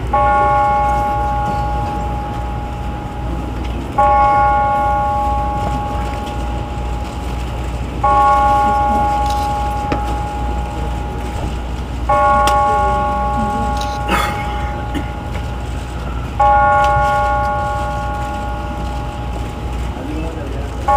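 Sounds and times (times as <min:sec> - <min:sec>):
church bell tolling: 0:00.0 - 0:20.9.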